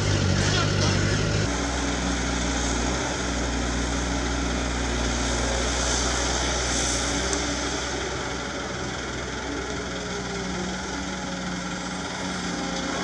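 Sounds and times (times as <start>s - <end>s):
dump truck diesel engine running: 0.0s - 13.0s
excavator diesel engine running: 0.0s - 13.0s.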